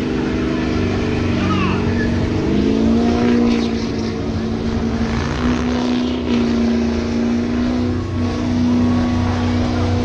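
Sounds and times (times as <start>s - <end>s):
truck engine revving hard: 0.0s - 10.0s.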